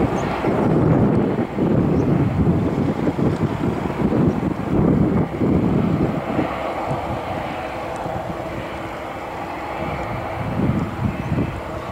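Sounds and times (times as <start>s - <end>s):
jet engines whining: 0.0s - 11.9s
wind gusts on microphone: 0.0s - 11.9s.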